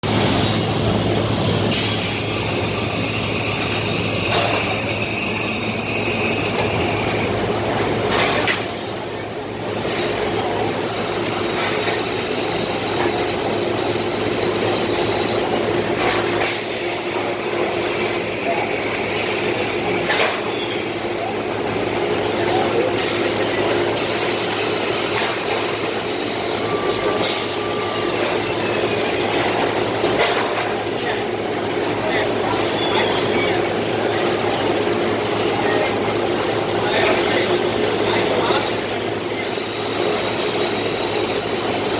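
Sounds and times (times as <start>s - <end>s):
machinery whining and humming: 0.0s - 41.9s.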